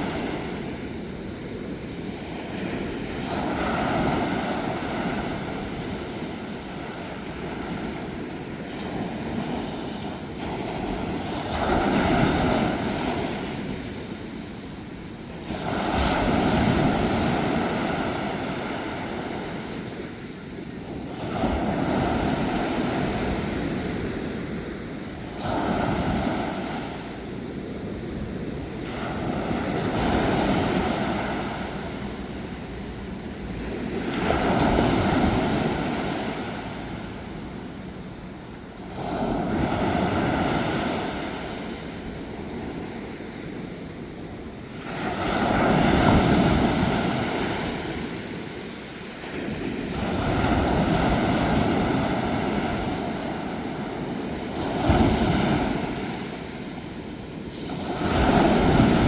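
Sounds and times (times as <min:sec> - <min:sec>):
ocean waves washing onto shore: 0:00.0 - 0:59.0.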